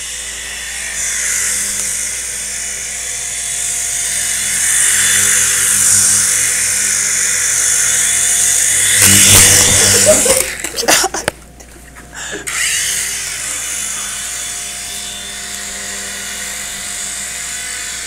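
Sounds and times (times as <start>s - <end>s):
toy helicopter rotor whine: 0.0s - 11.1s, 12.4s - 18.0s.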